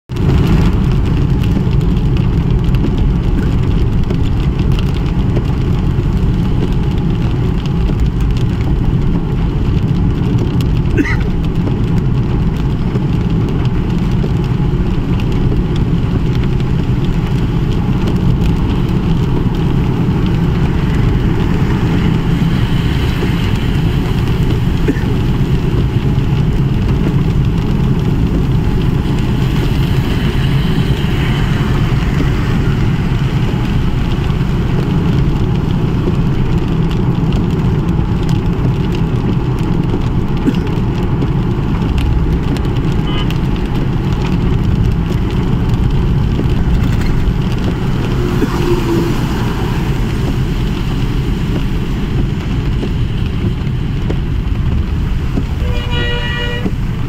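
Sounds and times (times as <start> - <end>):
car driving on wet road: 0.1 - 57.0.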